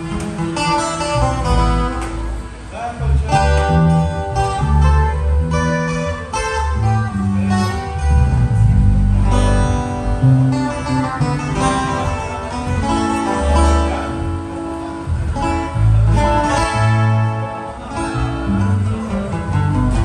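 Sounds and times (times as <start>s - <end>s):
bass guitar notes: 0.0s - 20.0s
electric guitar: 0.0s - 20.0s
strummed acoustic guitar: 0.0s - 20.0s.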